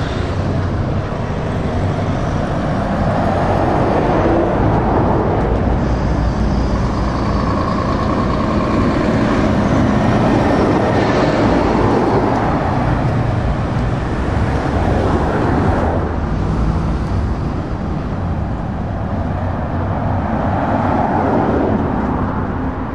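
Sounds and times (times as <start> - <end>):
diesel truck engines: 0.0 - 22.9
road traffic passing: 0.0 - 22.9.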